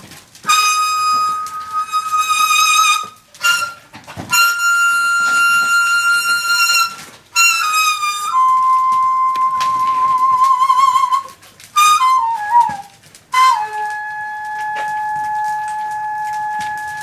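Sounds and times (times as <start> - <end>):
bamboo flute playing long notes: 0.0 - 17.0.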